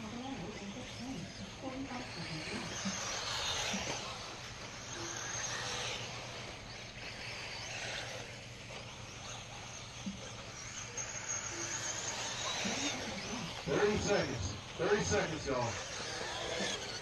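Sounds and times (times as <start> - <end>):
rc cars tire hiss and motor whine: 0.0 - 17.0
steady low hum: 0.0 - 17.0.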